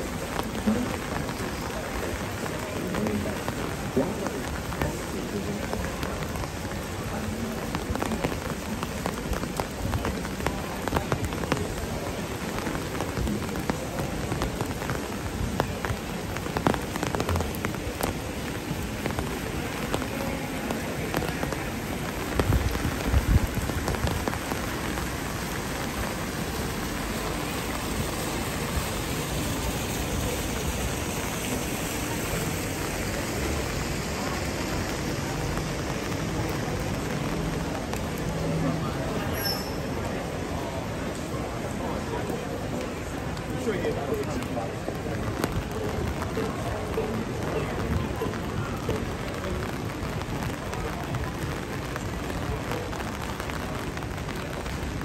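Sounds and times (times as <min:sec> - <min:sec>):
rain falling: 0:00.0 - 0:55.0
raindrops ticking: 0:00.0 - 0:55.0.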